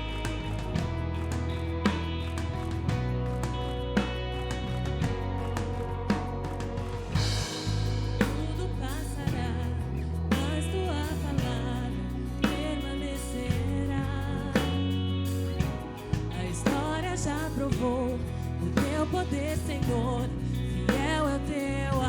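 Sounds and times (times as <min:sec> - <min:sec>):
bass: 0:00.0 - 0:22.0.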